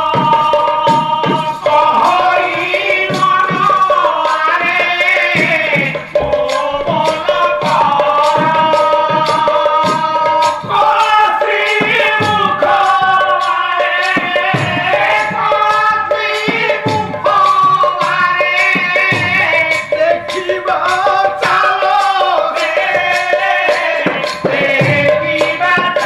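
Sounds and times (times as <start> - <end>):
hand drum: 0.0 - 26.0
man singing long notes: 0.0 - 26.0.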